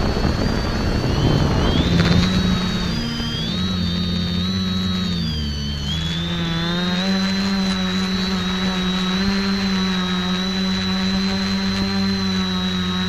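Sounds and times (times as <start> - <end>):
quadcopter motors buzzing: 0.0 - 13.0.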